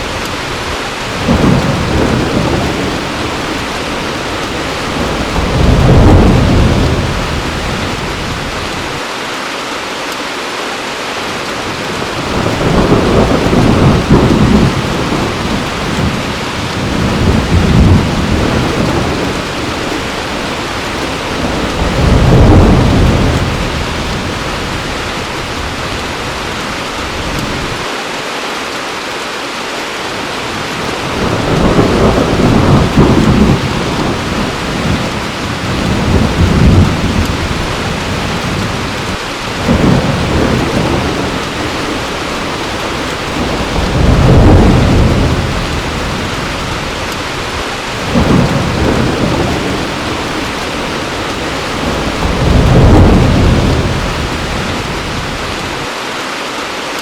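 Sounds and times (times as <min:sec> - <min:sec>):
thunder rumbling: 0:00.0 - 0:09.0, 0:11.7 - 0:27.9, 0:30.4 - 0:55.9
heavy rain falling: 0:00.0 - 0:57.0.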